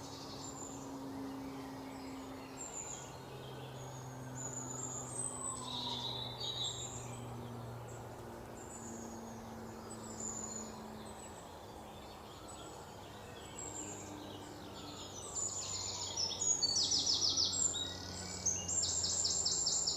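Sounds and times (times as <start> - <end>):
birds chirping and trilling: 0.0 - 19.9
steady low hum: 0.0 - 19.9.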